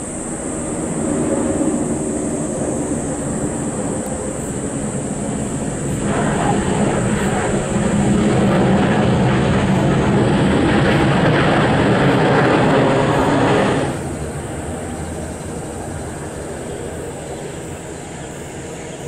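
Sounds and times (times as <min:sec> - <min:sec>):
jet airliner engine rush: 0:00.0 - 0:19.0.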